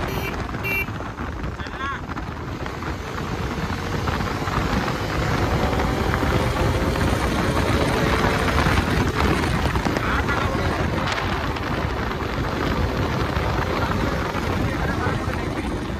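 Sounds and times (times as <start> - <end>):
motorcycle engine: 0.0 - 15.9
wind rushing over microphone: 0.0 - 15.9.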